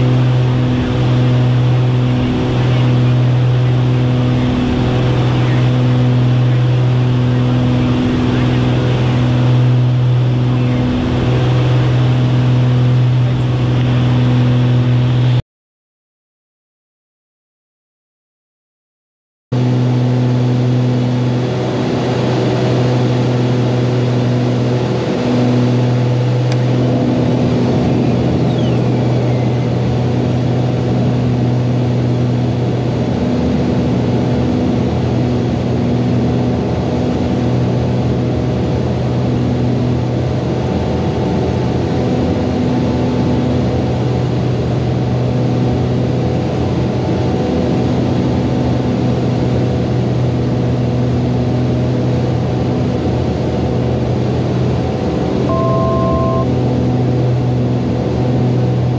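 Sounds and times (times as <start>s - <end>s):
propeller engines droning in cabin: 0.0s - 15.4s, 19.5s - 58.9s.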